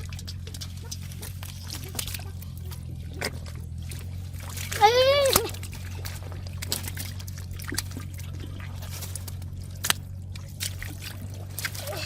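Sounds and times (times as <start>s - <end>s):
steady low hum: 0.0s - 12.0s
water splashing by hands: 0.0s - 12.0s.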